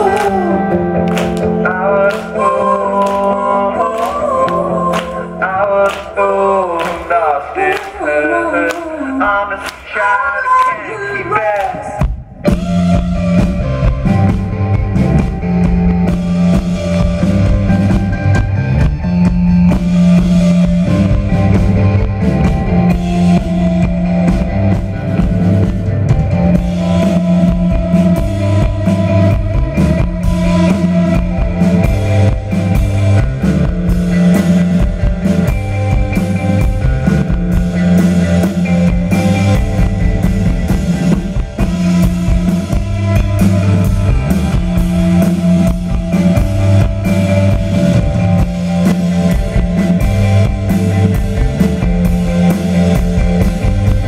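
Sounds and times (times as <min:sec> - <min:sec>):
drum kit: 0:00.0 - 0:07.1, 0:11.4 - 0:54.0
electric bass line: 0:00.0 - 0:09.5, 0:11.9 - 0:54.0
electric guitar: 0:00.0 - 0:54.0.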